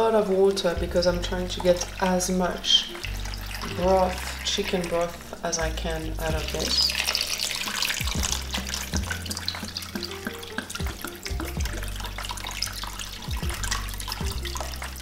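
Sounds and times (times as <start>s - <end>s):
water pouring into a pot: 0.4s - 15.0s.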